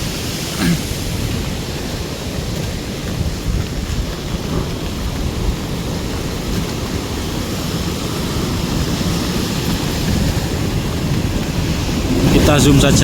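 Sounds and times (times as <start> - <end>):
heavy rain: 0.0 - 13.0
strong wind: 0.0 - 13.0.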